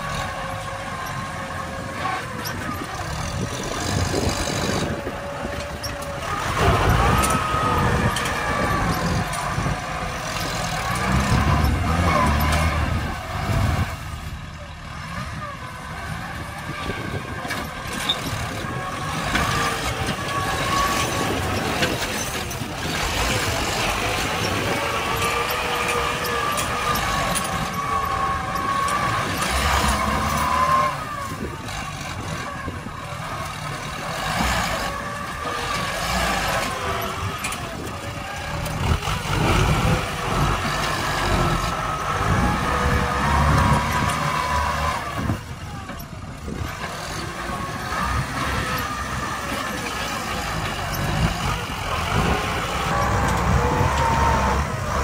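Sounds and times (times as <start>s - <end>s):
diesel tractor engines under load: 0.0s - 55.0s.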